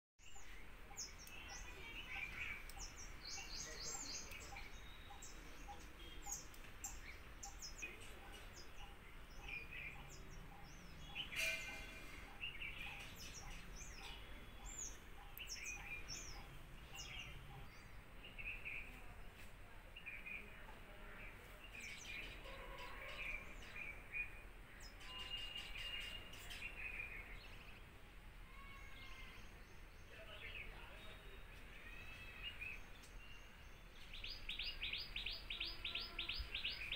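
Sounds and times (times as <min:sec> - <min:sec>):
small birds chirping: 0:00.2 - 0:36.9.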